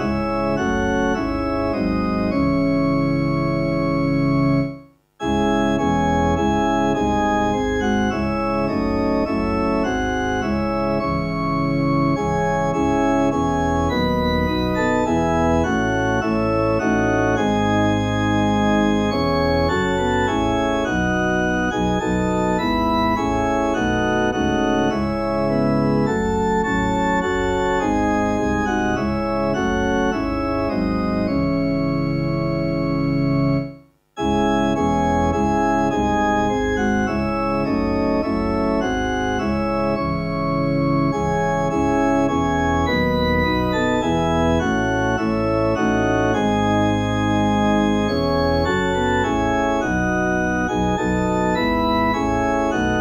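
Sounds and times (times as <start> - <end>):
organ playing hymn chords: 0.0 - 53.0.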